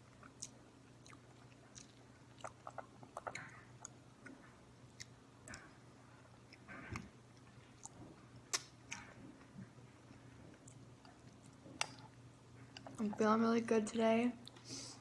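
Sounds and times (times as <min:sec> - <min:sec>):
quiet chewing: 0:00.0 - 0:13.2.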